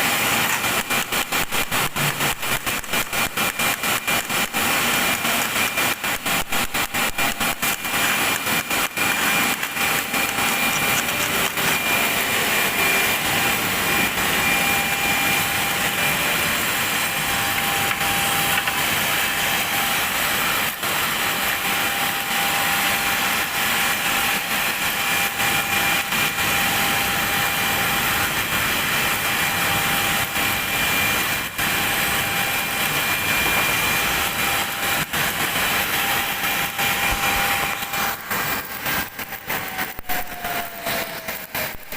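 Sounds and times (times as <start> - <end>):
faint steady whine: 0.0 - 41.9
welding arc crackling hiss: 0.0 - 41.9.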